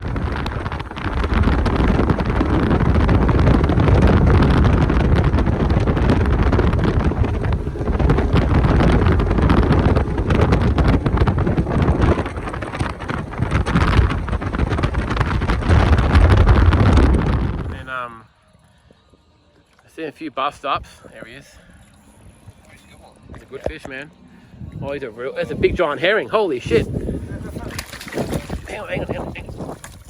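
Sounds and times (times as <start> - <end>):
wind buffeting microphone: 0.0 - 18.1, 20.8 - 30.0.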